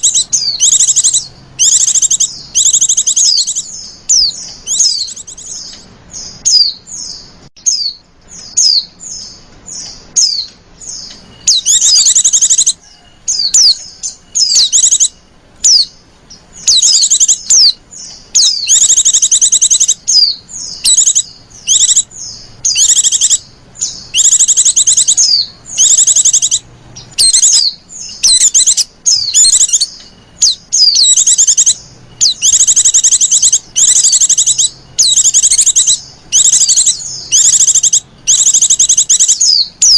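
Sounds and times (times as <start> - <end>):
bird chattering trills: 0.0 - 39.9
bird chirping: 0.0 - 39.9.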